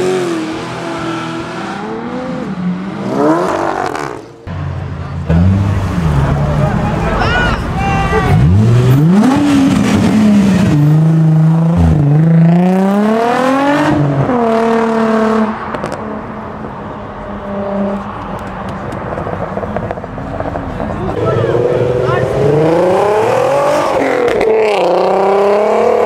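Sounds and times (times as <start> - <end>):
car engine revving and accelerating: 0.0 - 4.4, 5.2 - 7.0, 8.3 - 16.2, 19.2 - 26.0.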